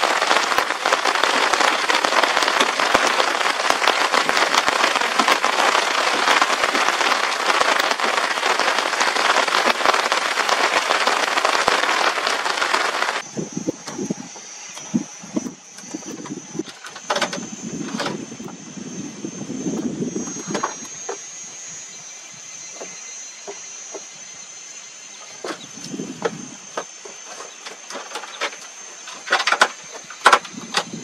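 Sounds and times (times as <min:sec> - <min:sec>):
heavy rain hissing: 0:00.0 - 0:31.0
high insect drone: 0:00.0 - 0:31.0.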